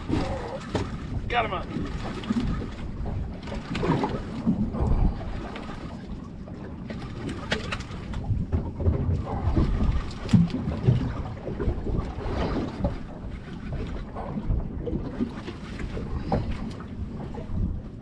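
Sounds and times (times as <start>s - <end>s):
water moving against boat: 0.0s - 18.0s
wind buffeting microphone: 0.0s - 18.0s.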